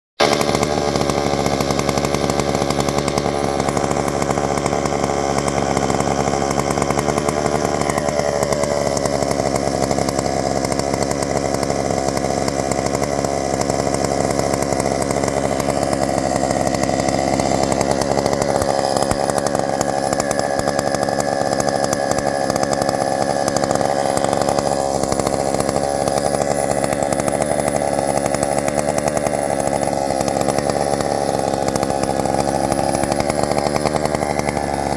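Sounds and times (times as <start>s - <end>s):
chainsaw running loudly: 0.2s - 34.9s.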